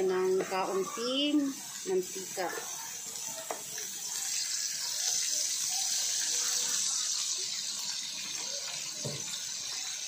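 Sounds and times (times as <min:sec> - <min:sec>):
pork frying in a wok: 0:00.0 - 0:10.0.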